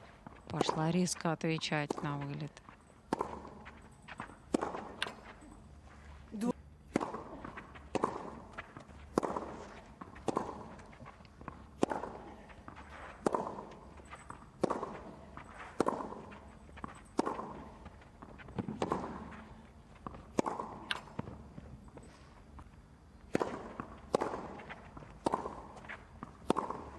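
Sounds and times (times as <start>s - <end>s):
tennis ball hit with racquets: 0.0s - 5.6s, 6.4s - 21.4s, 23.2s - 26.9s.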